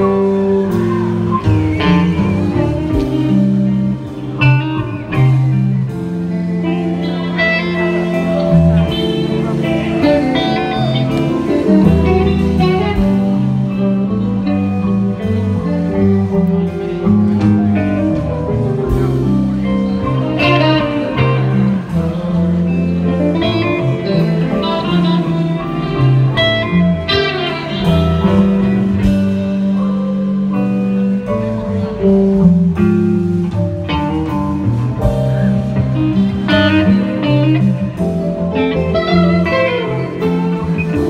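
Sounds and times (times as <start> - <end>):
drums: 0.0 - 41.0
electric bass: 0.0 - 41.0
electric guitars: 0.0 - 41.0.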